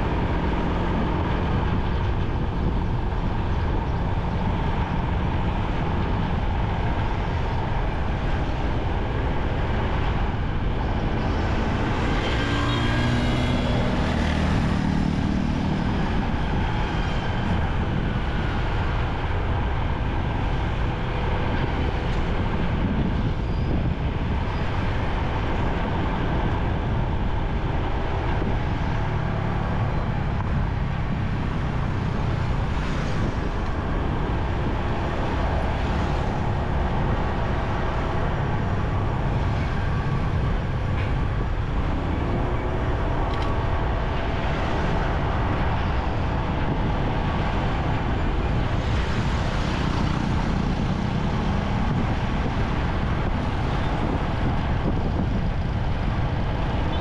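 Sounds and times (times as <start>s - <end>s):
other vehicles in traffic: 0.0s - 57.0s
road rumble: 0.0s - 57.0s.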